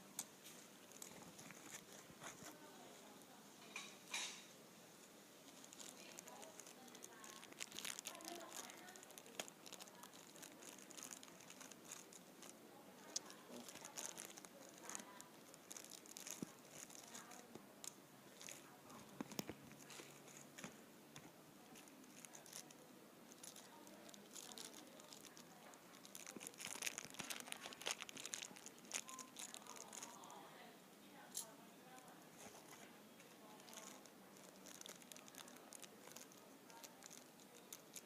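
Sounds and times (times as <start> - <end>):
packaging crinkling: 0.8 - 2.7, 5.4 - 30.4, 33.4 - 38.0.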